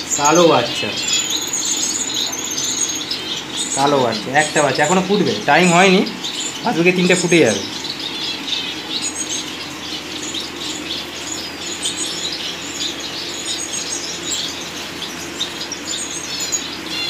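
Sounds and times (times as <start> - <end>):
finches chirping: 0.0 - 17.0.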